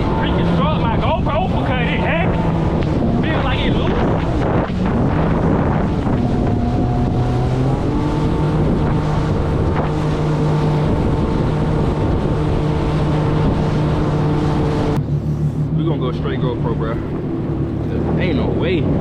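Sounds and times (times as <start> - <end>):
jet ski engine running: 0.0 - 19.0
wind buffeting microphone: 0.0 - 19.0.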